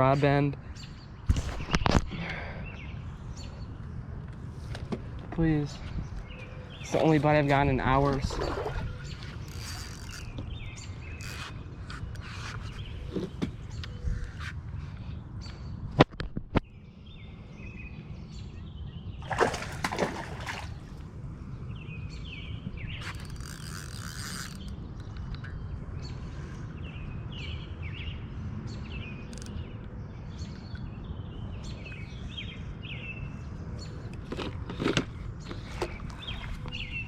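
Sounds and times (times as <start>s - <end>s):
small birds chirping: 0.0s - 15.9s, 16.6s - 37.0s.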